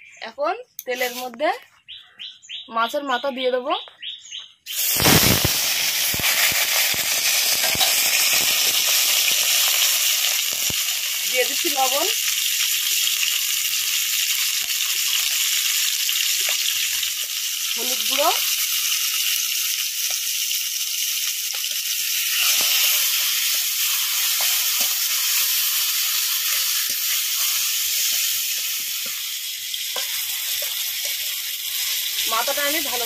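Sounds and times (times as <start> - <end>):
oil popping: 4.7 - 11.2, 12.2 - 33.0
fish frying in hot oil: 4.7 - 33.0.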